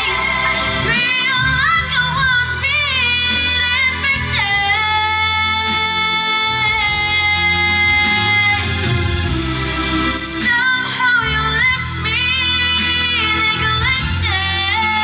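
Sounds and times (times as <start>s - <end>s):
young woman singing: 0.0s - 9.2s, 9.9s - 15.0s
instrumental accompaniment: 0.0s - 15.0s.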